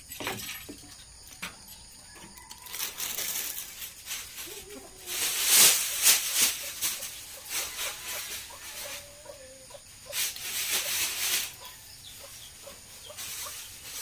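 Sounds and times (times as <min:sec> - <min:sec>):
chickens clucking: 0:00.9 - 0:14.0.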